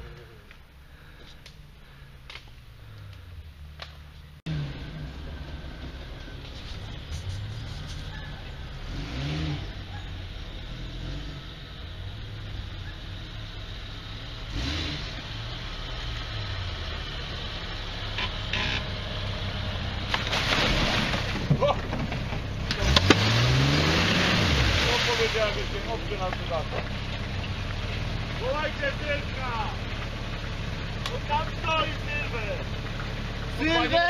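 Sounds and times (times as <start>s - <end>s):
engine revving: 4.5s - 21.7s, 22.5s - 34.0s.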